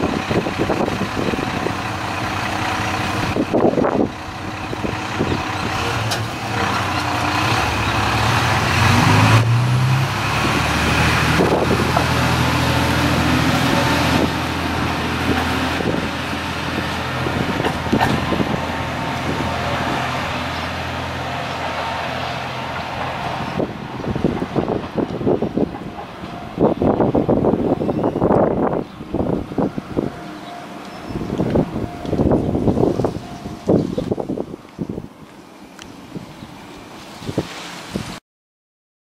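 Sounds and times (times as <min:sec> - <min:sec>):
diesel railcar engine revving: 0:00.0 - 0:35.2.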